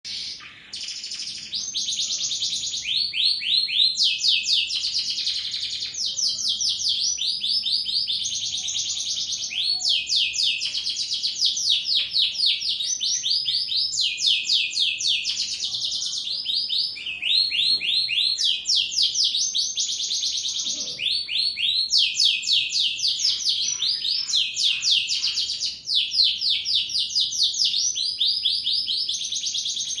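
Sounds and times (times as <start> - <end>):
canary singing trills: 0.1 - 30.0.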